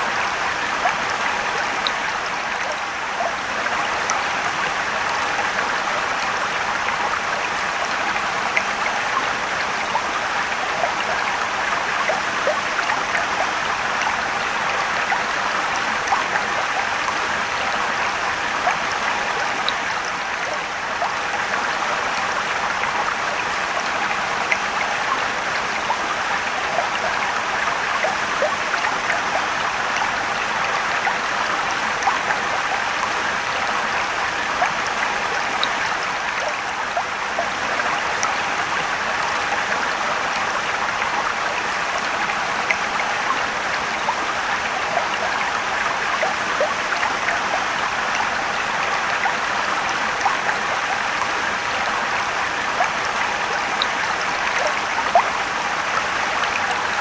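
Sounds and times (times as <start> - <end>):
water splashes and drips: 0.0 - 57.0.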